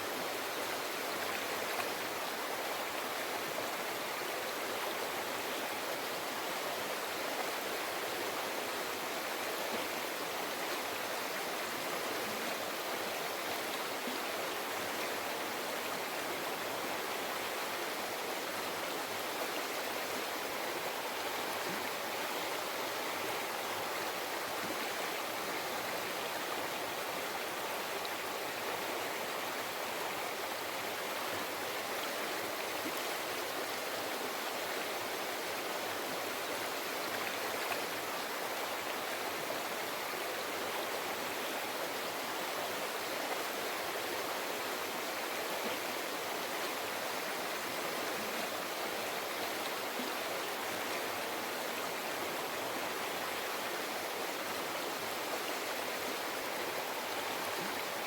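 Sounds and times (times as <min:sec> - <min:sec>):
river water babbling over rocks: 0:00.0 - 0:58.0.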